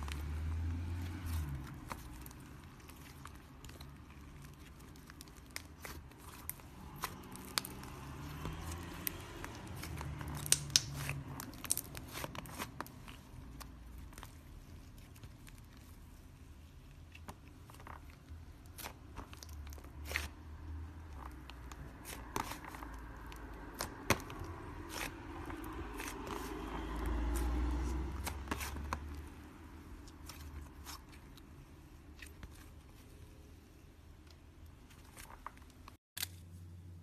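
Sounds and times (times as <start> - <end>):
sticky slime being worked by hand: 0.0 - 37.0.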